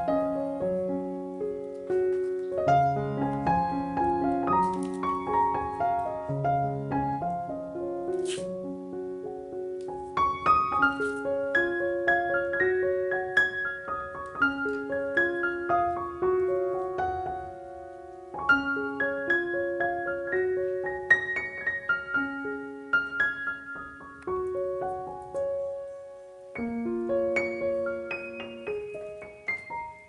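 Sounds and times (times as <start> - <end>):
gentle solo piano melody: 0.0 - 30.0.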